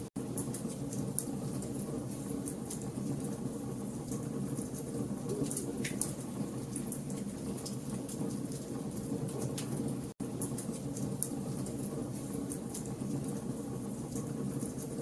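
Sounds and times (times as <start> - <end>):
low rumble of flames: 0.0 - 15.0.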